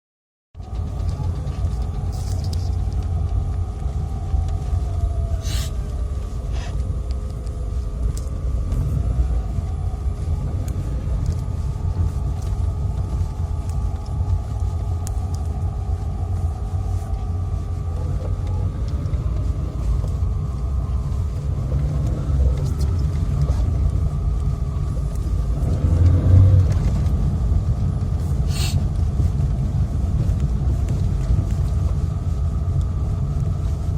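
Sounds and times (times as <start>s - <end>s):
faint hum: 0.6s - 33.9s
vehicle engine running: 0.6s - 33.9s.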